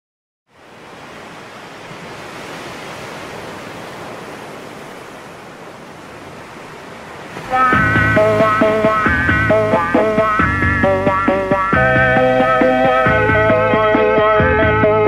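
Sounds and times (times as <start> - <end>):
ocean surf breaking: 0.5 - 15.0.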